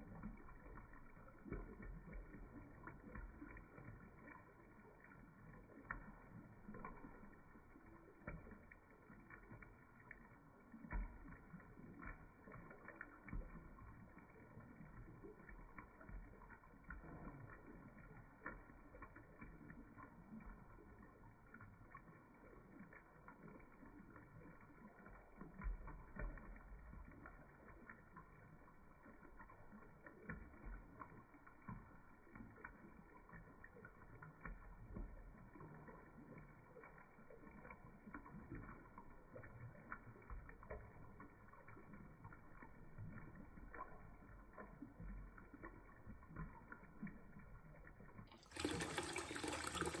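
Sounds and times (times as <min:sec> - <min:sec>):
water splashing into stone basin: 0:00.0 - 0:50.0.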